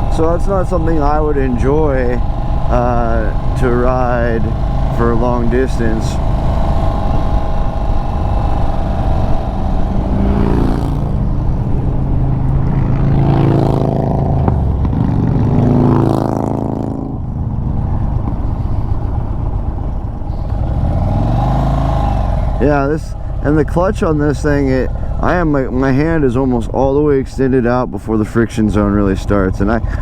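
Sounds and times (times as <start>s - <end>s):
motorcycle engine revving: 0.0s - 27.5s, 28.7s - 30.0s.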